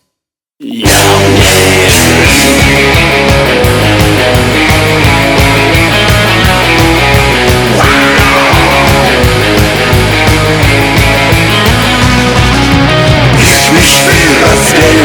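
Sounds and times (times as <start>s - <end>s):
instrumental rock music: 0.8s - 15.0s.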